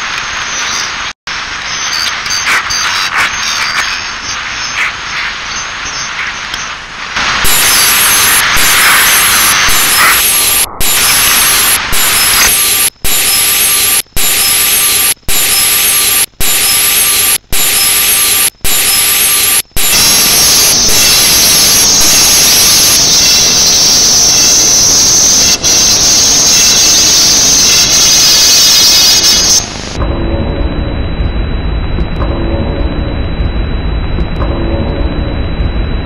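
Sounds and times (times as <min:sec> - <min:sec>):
harsh scrambled tv hiss: 0:00.0 - 0:30.0.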